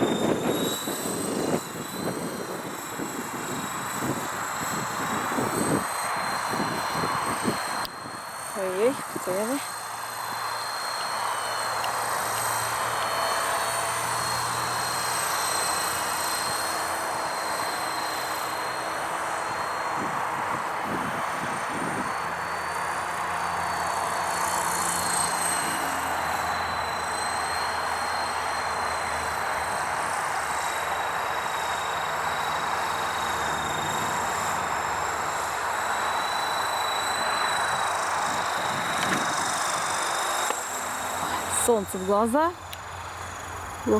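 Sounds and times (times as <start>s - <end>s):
toy helicopter motor whining: 0.0s - 43.9s.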